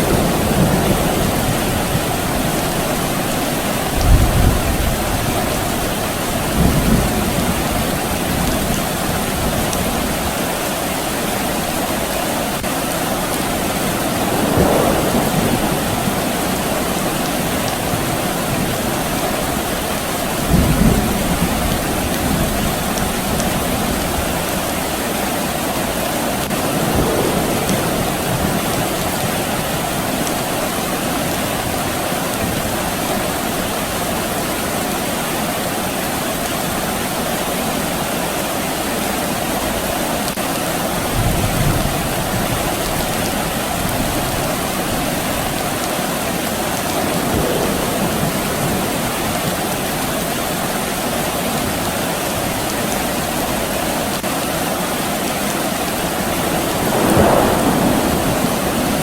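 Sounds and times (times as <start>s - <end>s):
distant thunder rumbles: 0.0s - 10.5s, 11.5s - 35.0s, 39.6s - 53.8s, 55.9s - 59.0s
soft rain falling: 0.0s - 59.0s.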